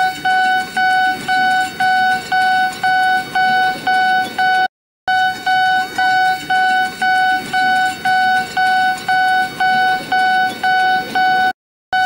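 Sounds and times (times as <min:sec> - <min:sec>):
railroad crossing signal beeping: 0:00.0 - 0:12.0.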